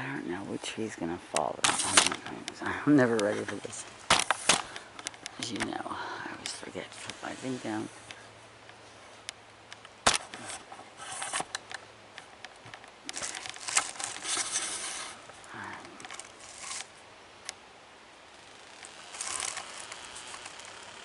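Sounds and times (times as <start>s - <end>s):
rustling of leafy brush: 0.0s - 21.0s.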